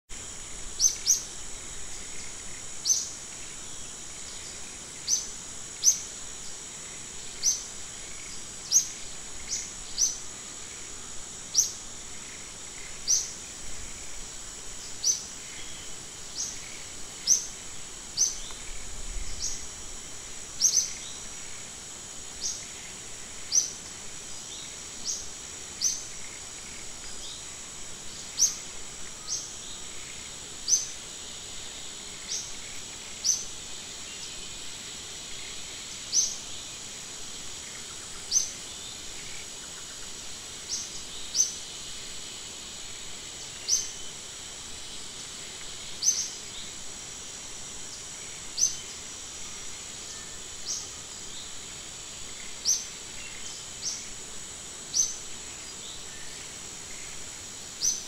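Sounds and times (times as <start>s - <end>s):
high-pitched insect drone: 0.1s - 58.0s.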